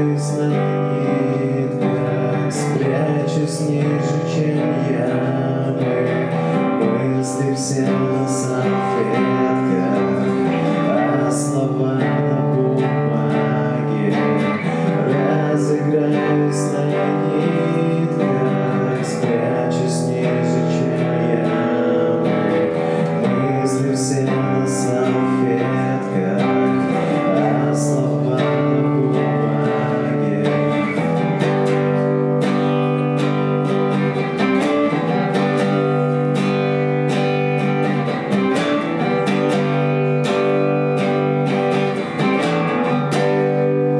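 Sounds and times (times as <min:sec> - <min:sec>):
acoustic guitar strumming: 0:00.0 - 0:43.9
man singing: 0:00.0 - 0:43.9.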